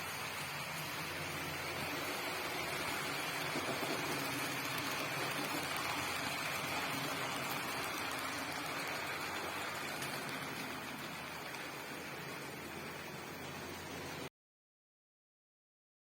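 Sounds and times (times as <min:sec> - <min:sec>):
model train whirring: 0:00.0 - 0:14.3.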